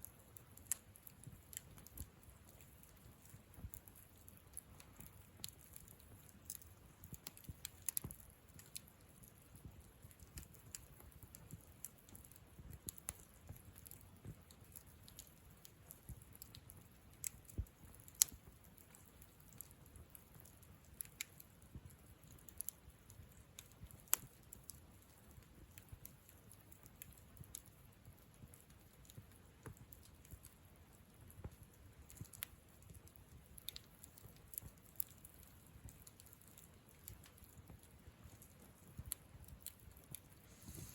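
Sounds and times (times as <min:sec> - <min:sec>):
campfire crackling and popping: 0:00.0 - 0:40.9
low rumble of burning fire: 0:00.0 - 0:40.9.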